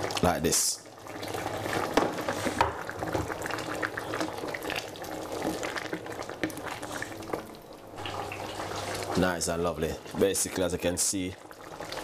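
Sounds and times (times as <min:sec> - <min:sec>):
liquid boiling and bubbling: 0:00.0 - 0:12.0
wooden spoon stirring: 0:01.0 - 0:10.7.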